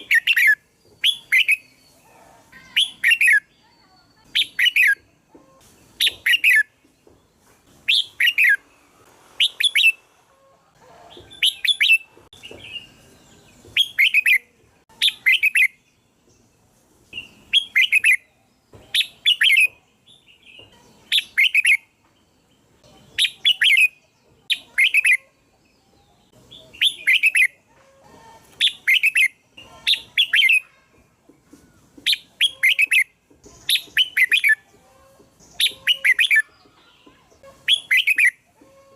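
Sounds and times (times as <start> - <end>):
bulbul singing: 0.0 - 8.8, 11.0 - 27.6, 28.5 - 38.9.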